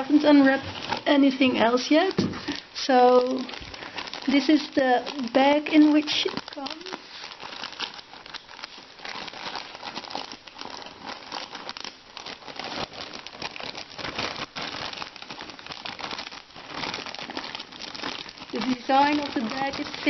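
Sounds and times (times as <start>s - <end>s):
packaging crinkling: 0.0s - 20.0s.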